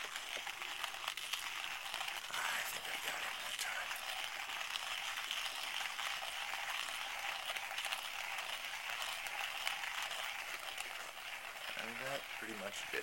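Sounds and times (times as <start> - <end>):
hand coffee grinder grinding: 0.0 - 13.0.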